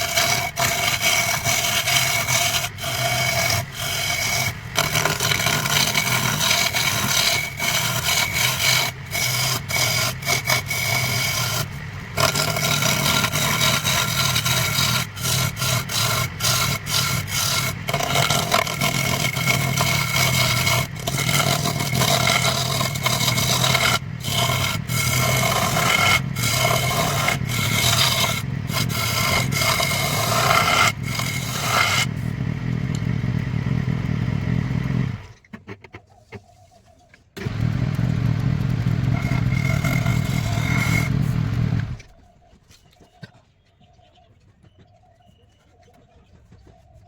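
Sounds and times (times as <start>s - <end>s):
wood lathe motor hum: 0.0s - 35.3s, 37.4s - 42.1s
turning tool scraping wood: 0.0s - 43.3s.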